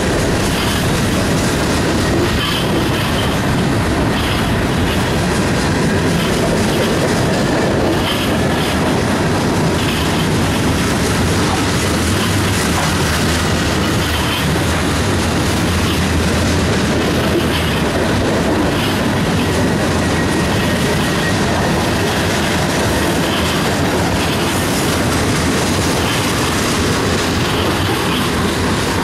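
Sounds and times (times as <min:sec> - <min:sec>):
freight train wheels rumbling on rails: 0:00.0 - 0:29.0.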